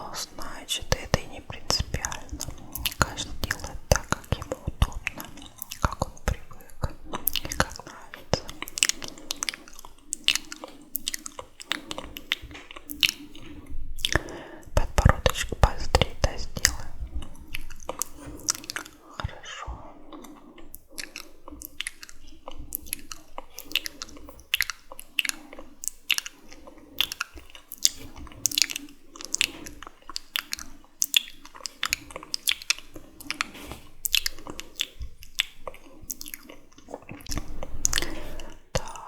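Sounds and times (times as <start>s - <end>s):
wet sticky mouth sounds: 0.0s - 39.0s.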